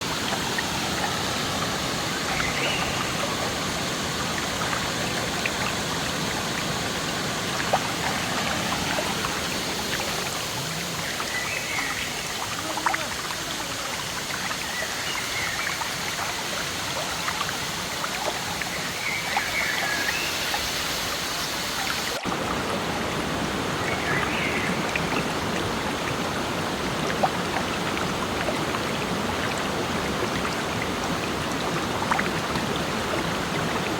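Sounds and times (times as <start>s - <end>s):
running water stream: 0.0s - 33.9s.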